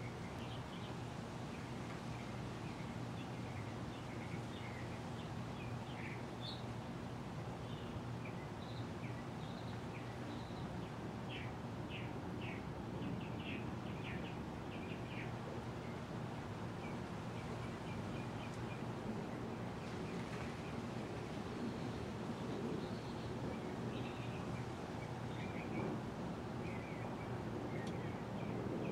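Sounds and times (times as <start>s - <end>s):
ceiling fan hum and air rush: 0.0s - 28.9s.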